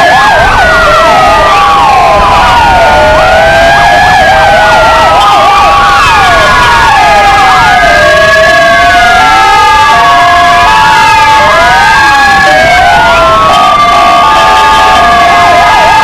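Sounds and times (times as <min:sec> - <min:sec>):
electronic sirens wailing: 0:00.0 - 0:16.0.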